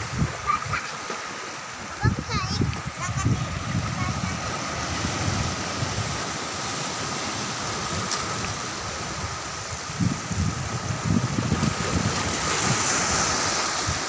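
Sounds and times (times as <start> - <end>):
waves washing over rocks: 0.0 - 14.0.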